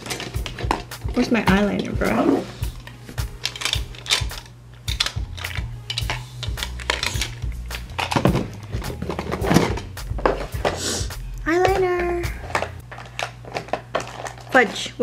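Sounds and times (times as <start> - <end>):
small items clicking and clattering: 0.0 - 1.2, 2.8 - 10.8, 11.6 - 15.0.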